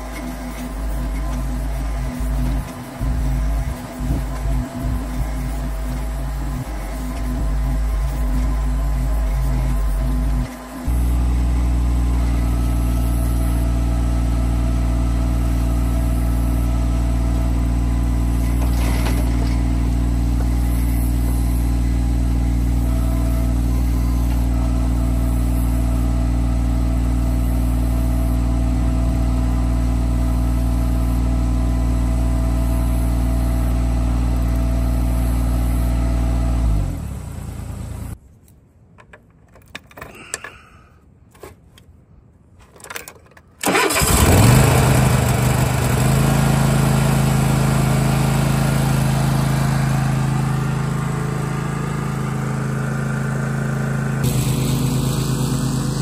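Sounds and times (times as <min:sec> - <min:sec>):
tractor diesel engine running: 0:00.0 - 0:38.2, 0:43.6 - 0:56.0.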